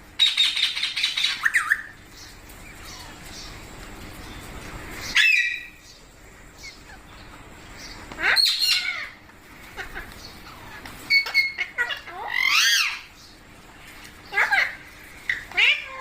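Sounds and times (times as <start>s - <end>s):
parrot calling: 0.2s - 3.8s, 4.9s - 5.8s, 6.4s - 13.2s, 14.0s - 16.0s.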